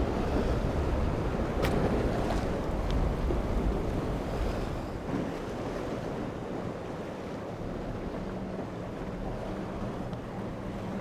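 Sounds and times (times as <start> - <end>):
faint engine drone: 0.0 - 11.0
rough sea breaking: 0.0 - 11.0
wind buffeting microphone: 0.0 - 11.0.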